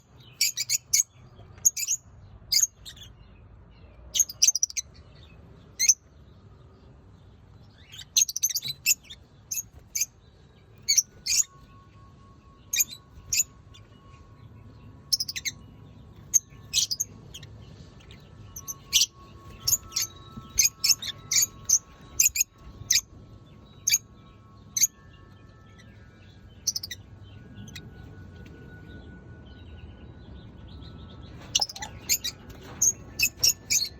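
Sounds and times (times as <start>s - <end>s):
lovebirds chirping: 0.0s - 33.9s.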